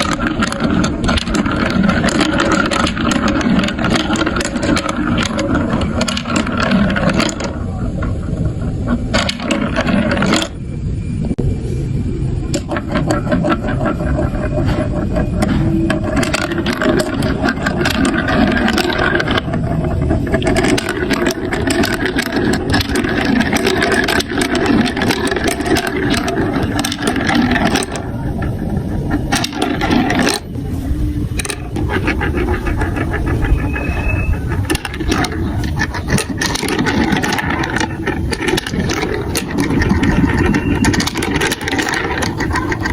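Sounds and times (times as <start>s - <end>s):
marbles rolling down plastic track: 0.0s - 10.6s, 12.5s - 42.9s.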